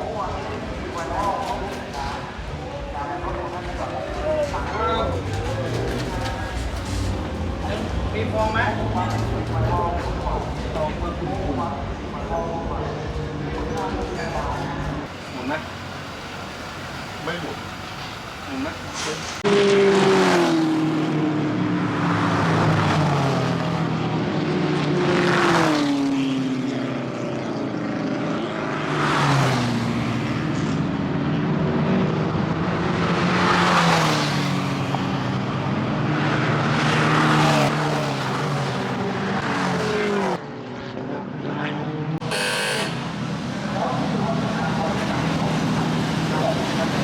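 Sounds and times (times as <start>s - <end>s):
race cars passing: 0.0s - 47.0s.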